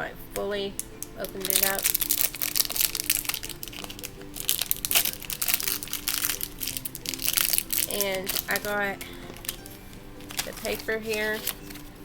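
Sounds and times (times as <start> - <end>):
faint background music: 0.0 - 12.0
packaging crinkling: 1.0 - 12.0.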